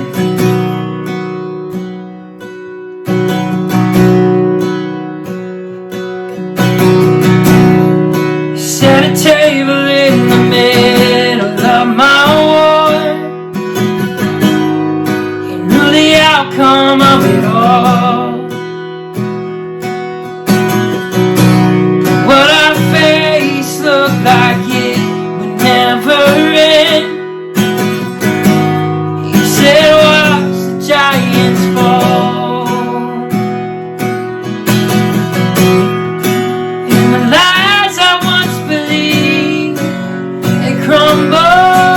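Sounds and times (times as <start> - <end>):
acoustic guitar strumming chords: 0.0 - 41.9.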